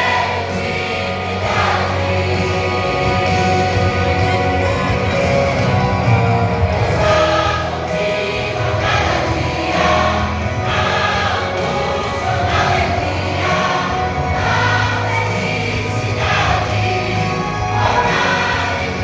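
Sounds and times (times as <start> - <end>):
band accompanying: 0.0 - 19.0
vocal group singing gospel: 0.0 - 19.0.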